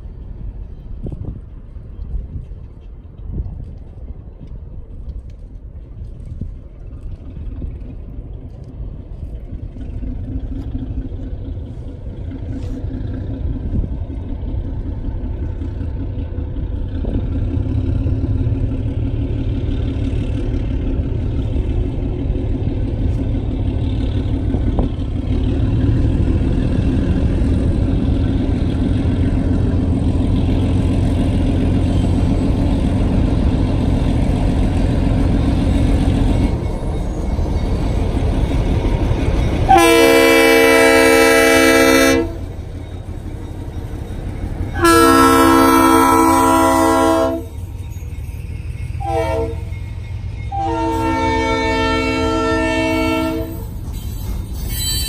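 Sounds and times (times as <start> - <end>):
diesel locomotive engine: 0.0 - 55.0.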